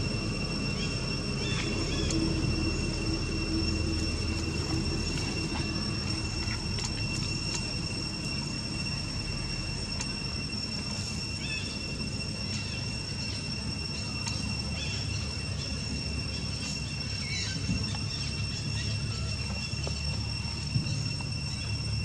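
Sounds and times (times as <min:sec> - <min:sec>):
high insect drone: 0:00.0 - 0:22.0
low rumble: 0:00.0 - 0:22.0.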